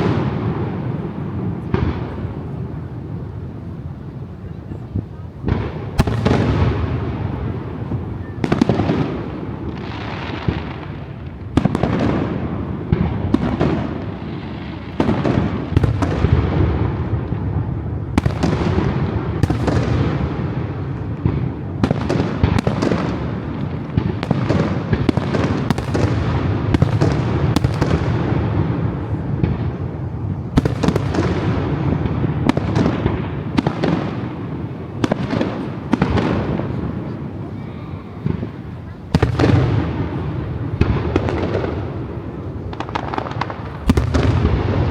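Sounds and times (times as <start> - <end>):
fireworks bangs: 0.0 - 44.9
fireworks crackling and rumbling: 0.0 - 44.9.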